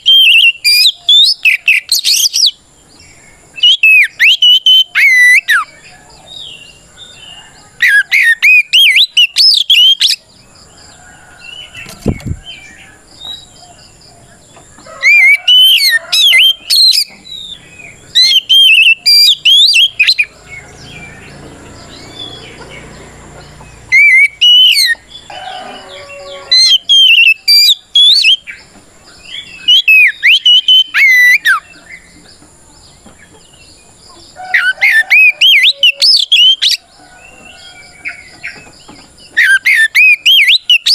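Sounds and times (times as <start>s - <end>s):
bird singing whistled notes: 0.0s - 10.3s, 15.0s - 22.6s, 23.4s - 32.1s, 34.5s - 40.9s.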